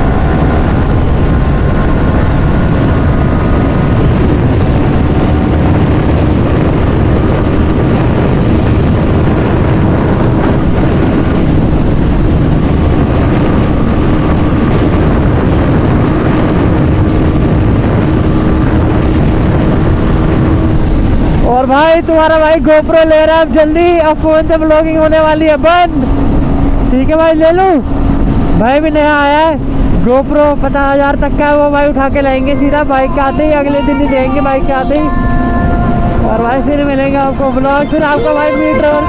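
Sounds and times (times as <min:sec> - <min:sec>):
motorcycle engine drone: 0:00.0 - 0:39.0
wind rushing over microphone: 0:00.0 - 0:39.0.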